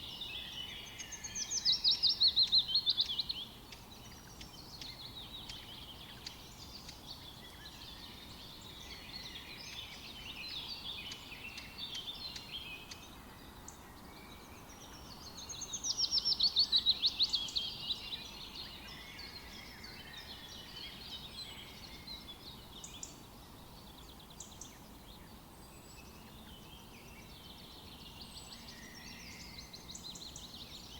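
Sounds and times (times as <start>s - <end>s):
birds chirping and singing: 0.0s - 30.9s.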